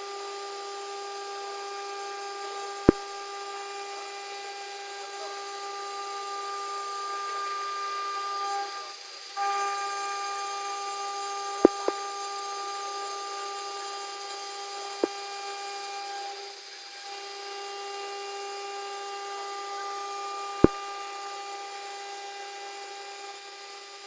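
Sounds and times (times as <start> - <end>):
router spindle whine: 0.0 - 24.0.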